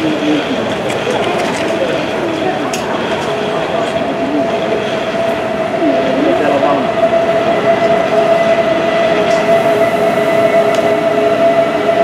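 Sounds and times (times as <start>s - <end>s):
train running past: 0.0s - 12.0s.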